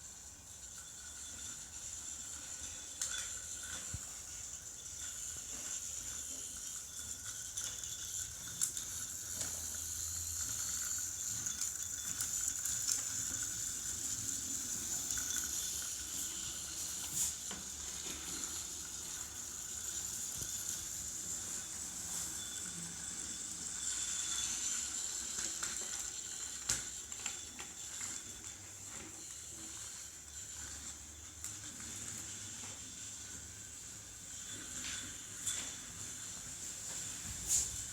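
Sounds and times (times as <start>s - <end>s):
toy train motor whirring: 0.0s - 37.9s
clicks along toy track: 0.1s - 37.6s.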